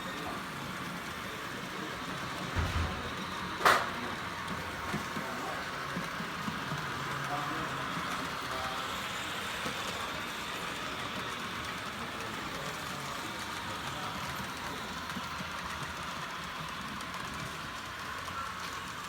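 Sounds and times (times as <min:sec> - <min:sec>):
model train whirring on rails: 0:00.0 - 0:19.0.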